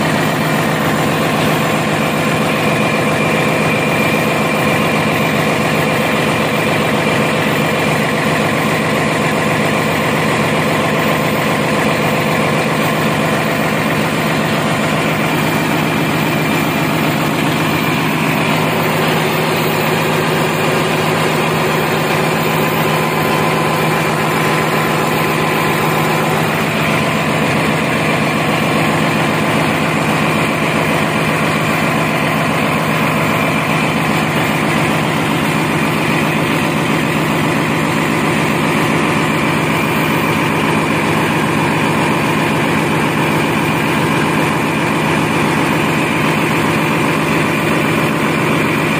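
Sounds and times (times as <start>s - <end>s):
diesel generator engine running: 0.0s - 48.9s.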